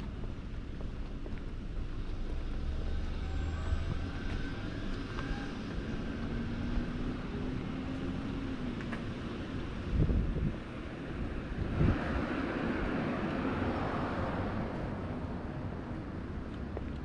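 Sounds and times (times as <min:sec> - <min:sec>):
vehicle low rumble: 0:00.0 - 0:17.0.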